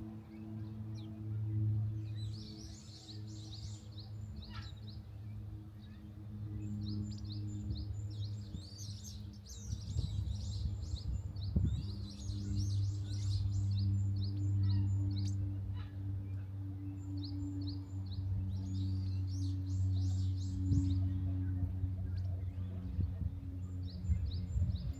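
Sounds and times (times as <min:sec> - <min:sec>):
low hum: 0:00.0 - 0:24.9
small birds chirping: 0:02.0 - 0:24.9.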